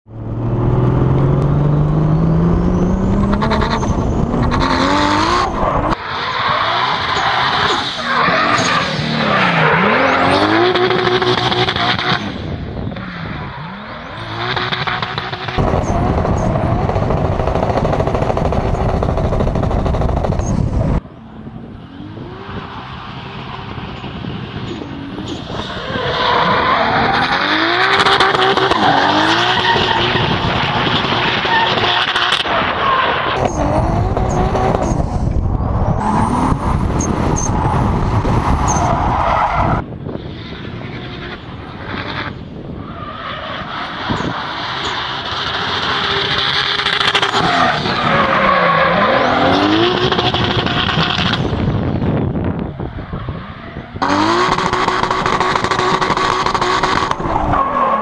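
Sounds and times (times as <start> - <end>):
car engine revving: 0.1 - 12.6, 13.5 - 39.9, 43.6 - 51.9, 53.9 - 58.0.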